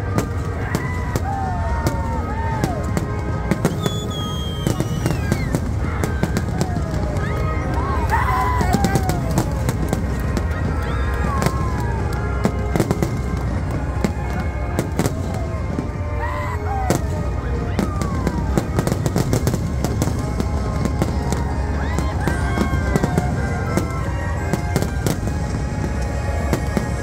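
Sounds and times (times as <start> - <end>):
crowd whooping: 0.0 - 27.0
fireworks bangs and crackles: 0.0 - 27.0
orchestral music: 0.0 - 27.0.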